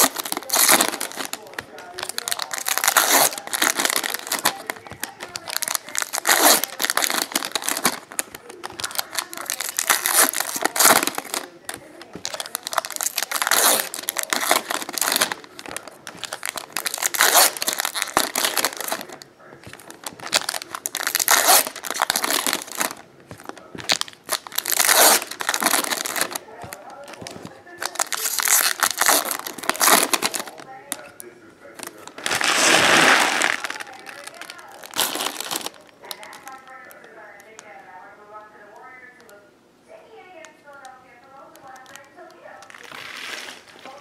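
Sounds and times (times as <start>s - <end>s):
foil wrappers tearing and crinkling: 0.0s - 36.7s, 41.6s - 44.0s.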